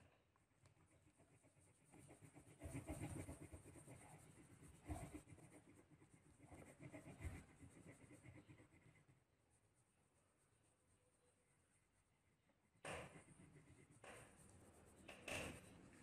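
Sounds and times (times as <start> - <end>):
pencil scratching on paper: 0.6 - 16.0.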